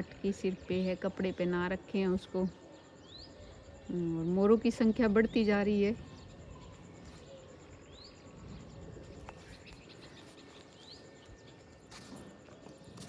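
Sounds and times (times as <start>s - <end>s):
faint bird chirping: 0.0s - 13.0s
low background noise: 0.0s - 13.0s.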